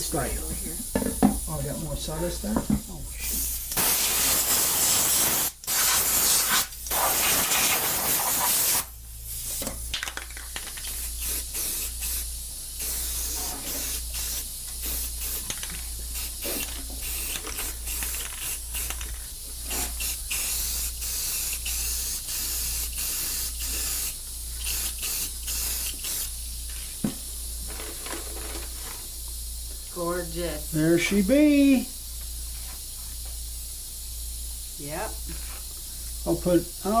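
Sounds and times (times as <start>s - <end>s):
aerosol can spraying: 0.0s - 37.0s.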